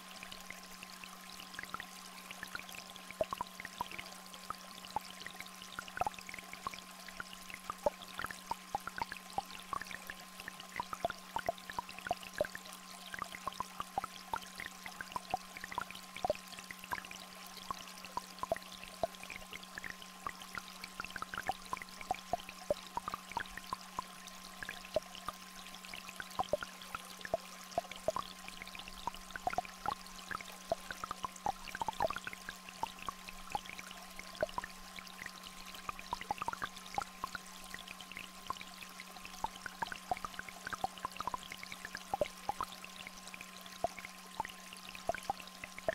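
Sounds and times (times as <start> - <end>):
low electronic hum: 0.0 - 45.9
small stream flowing: 0.0 - 45.9.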